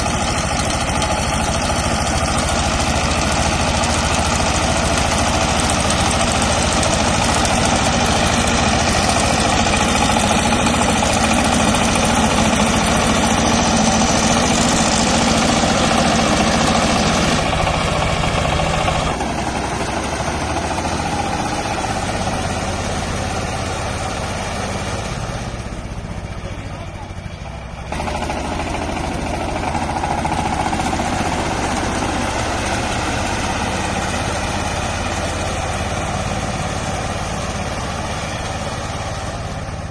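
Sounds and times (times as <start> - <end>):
fodder chopper: 0.0 - 39.9
tractor engine running: 0.0 - 39.9.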